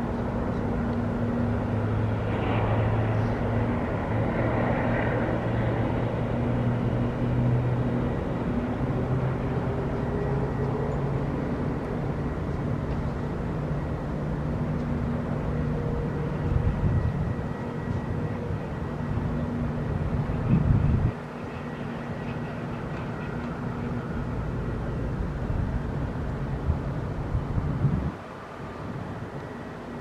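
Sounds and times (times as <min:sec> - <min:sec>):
jet engine rumble and whine: 0:00.0 - 0:30.0.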